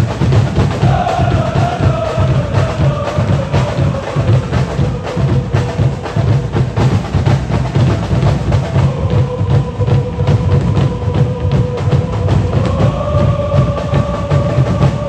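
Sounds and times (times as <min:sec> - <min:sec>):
bass drums beating: 0:00.0 - 0:15.0
crowd chanting in unison: 0:00.0 - 0:15.0.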